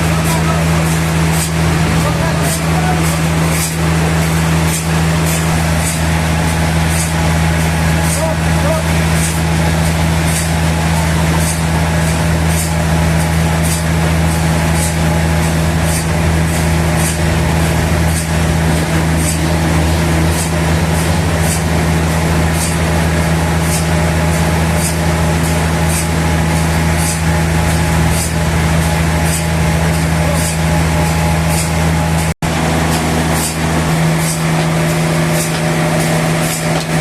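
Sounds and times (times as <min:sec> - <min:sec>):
sawmill motor hum: 0:00.0 - 0:37.0.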